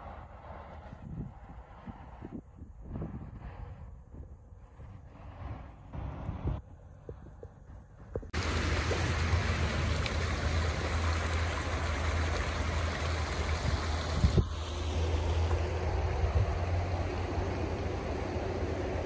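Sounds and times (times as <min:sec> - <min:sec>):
rushing noise with low rumble: 0:00.0 - 0:19.0.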